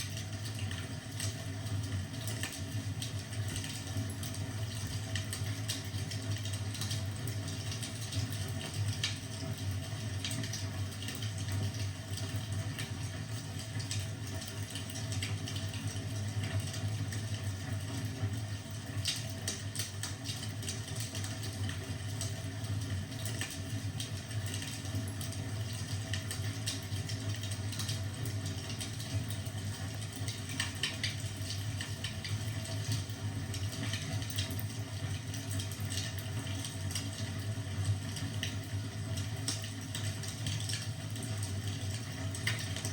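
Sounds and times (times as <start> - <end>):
fire crackling in a fireplace: 0.0 - 42.9.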